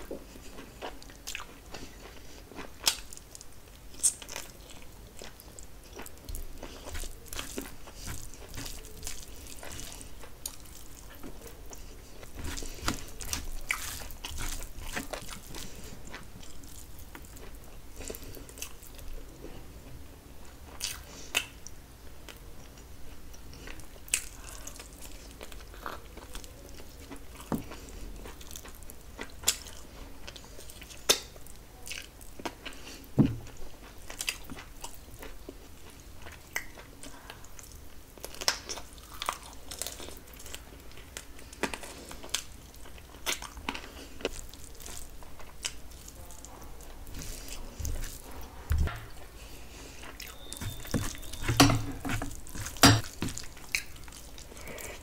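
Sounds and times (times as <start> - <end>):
close chewing and biting: 0.0 - 19.5, 20.7 - 55.0.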